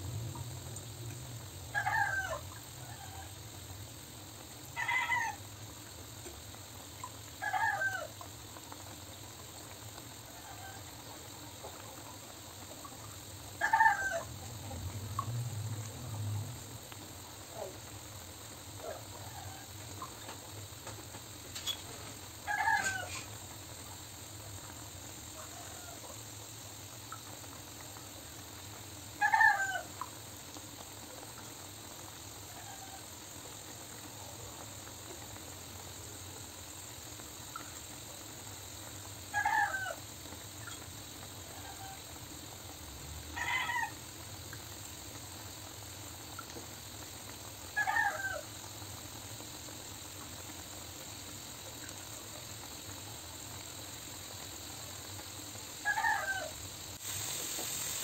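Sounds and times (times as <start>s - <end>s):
steady low hiss: 0.0s - 58.0s.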